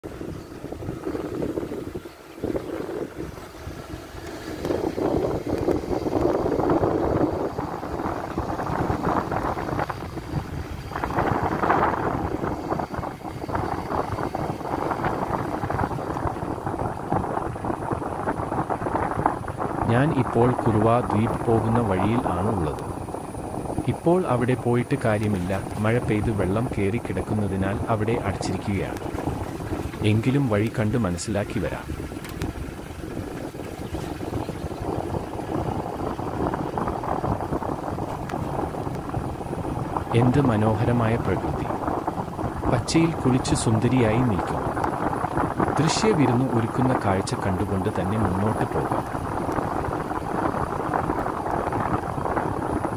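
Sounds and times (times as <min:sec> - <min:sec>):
vehicle rumbling on road: 0:00.0 - 0:52.9
wind buffeting microphone: 0:00.0 - 0:52.9.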